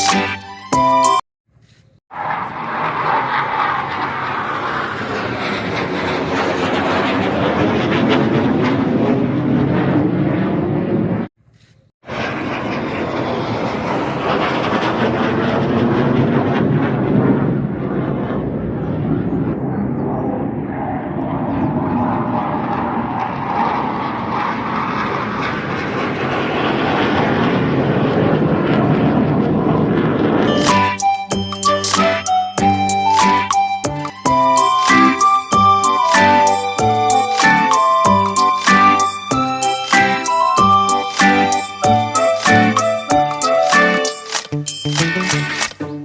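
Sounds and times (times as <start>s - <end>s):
airplane flying low overhead: 1.6s - 31.3s, 32.0s - 44.2s.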